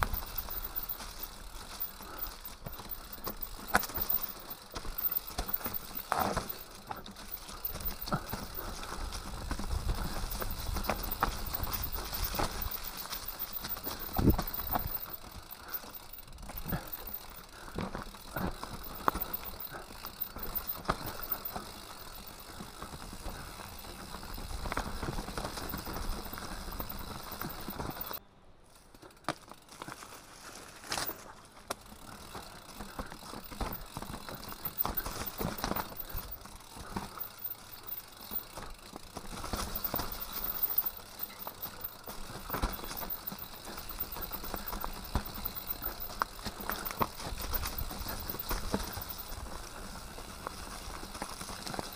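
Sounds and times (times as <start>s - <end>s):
bike knocking and rattling: 0.0s - 51.9s
bike tyres rolling over dirt: 0.0s - 51.9s.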